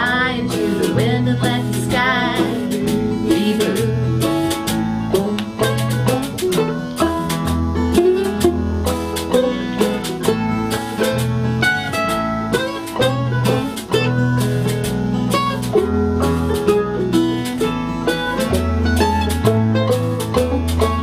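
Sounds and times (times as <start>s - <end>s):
banjo picking: 0.0s - 21.0s
mandolin picking: 0.0s - 21.0s
strummed acoustic guitar: 0.0s - 21.0s
walking bass line: 0.0s - 21.0s.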